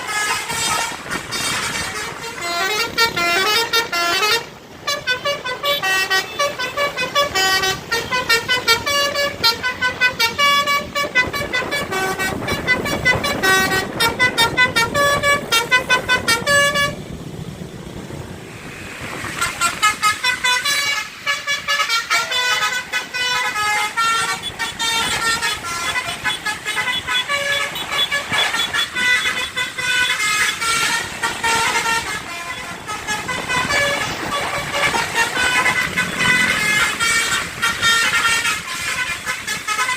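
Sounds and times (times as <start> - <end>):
multi-tone air horn melody: 0.0 - 17.2, 18.2 - 39.9
bus and road noise: 0.0 - 39.9.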